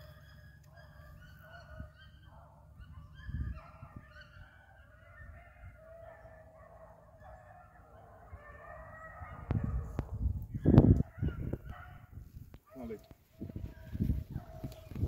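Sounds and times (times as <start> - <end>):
distant dogs baying: 0.0 - 15.0.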